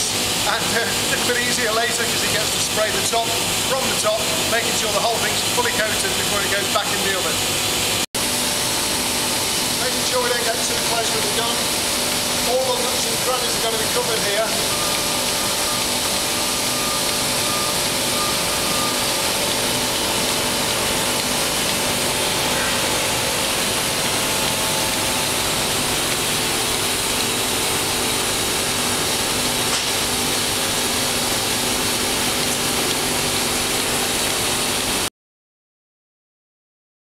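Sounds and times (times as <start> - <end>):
machine hum: 0.0 - 35.1.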